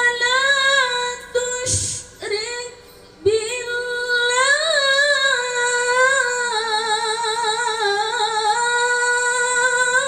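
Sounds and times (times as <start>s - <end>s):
woman reciting melodically: 0.0s - 10.0s.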